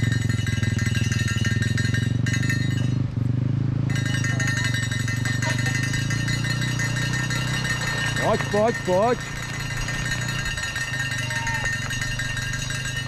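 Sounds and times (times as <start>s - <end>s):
high metallic bike buzz: 0.0s - 13.0s
tyres rumbling: 0.0s - 13.0s
wind: 0.0s - 13.0s.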